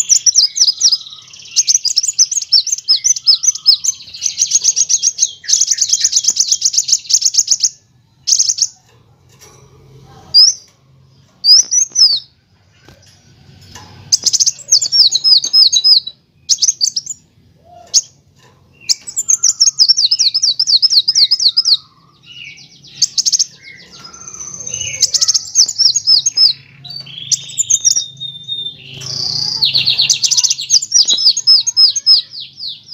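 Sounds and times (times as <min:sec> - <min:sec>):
bird singing trills: 0:00.0 - 0:08.9, 0:10.2 - 0:32.9.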